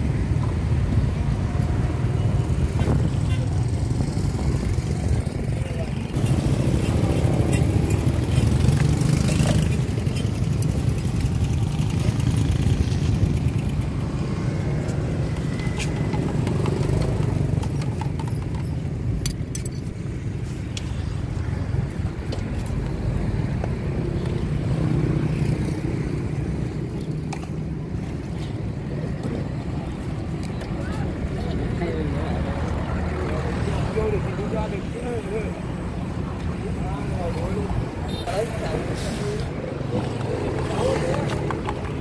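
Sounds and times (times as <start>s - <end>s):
motorbike engines: 0.0s - 42.0s
road traffic rumble: 0.0s - 42.0s.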